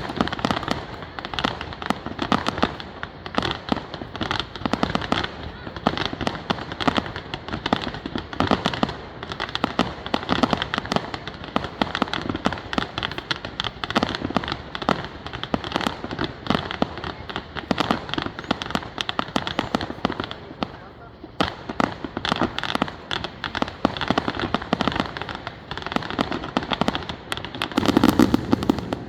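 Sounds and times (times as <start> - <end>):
fireworks bangs and crackling pops: 0.0 - 29.0.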